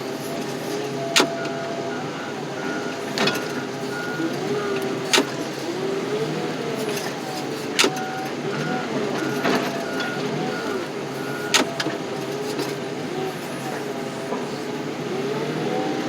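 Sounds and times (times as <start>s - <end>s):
machinery whine: 0.0s - 16.0s.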